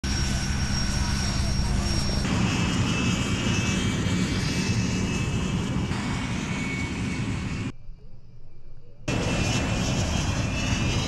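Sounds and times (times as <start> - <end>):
jet engine running: 0.0 - 7.8, 9.1 - 11.0.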